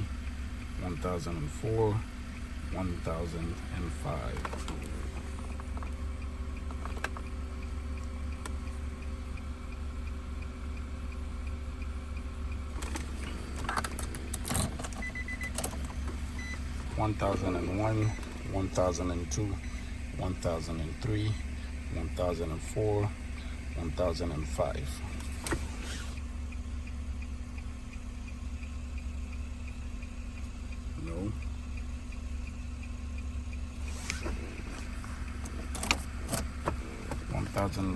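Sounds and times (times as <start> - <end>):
rapid ticking in car cabin: 0.0 - 37.9
steady low hum: 0.0 - 37.9.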